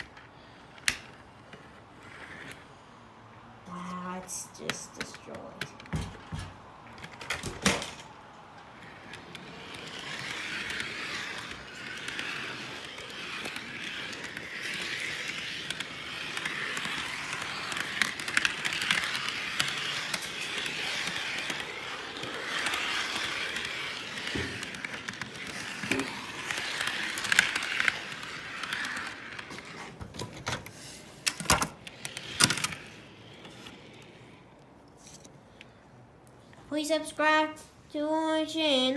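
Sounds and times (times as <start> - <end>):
model train wheels rolling: 0.0 - 2.8, 3.7 - 35.4.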